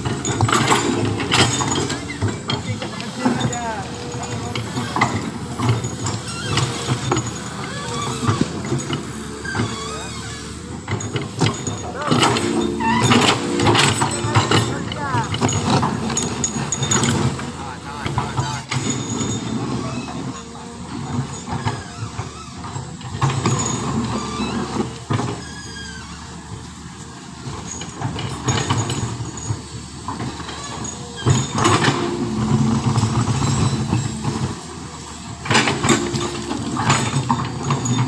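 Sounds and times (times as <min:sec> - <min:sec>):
heavy diesel engines running: 0:00.0 - 0:38.0.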